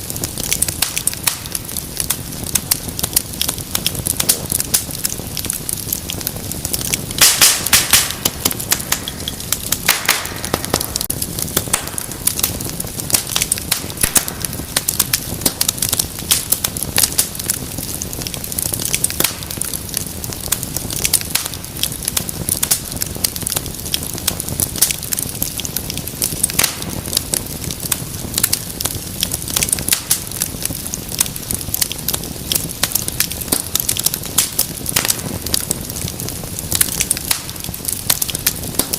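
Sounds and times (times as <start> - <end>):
fireplace fire crackling and popping: 0.0 - 38.9.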